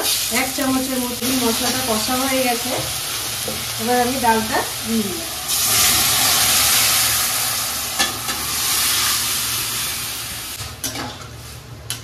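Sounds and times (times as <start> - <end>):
lentils sizzling in hot oil: 0.0 - 10.6.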